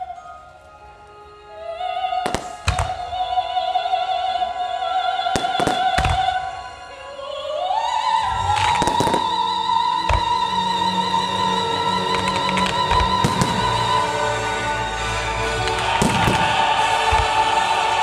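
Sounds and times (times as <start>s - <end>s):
operatic voice singing: 1.4s - 18.0s.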